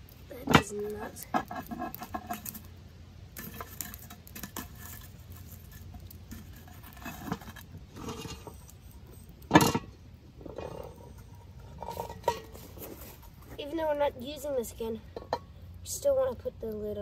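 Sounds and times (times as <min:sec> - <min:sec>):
charcoal scraping on metal lid: 0:00.1 - 0:17.0.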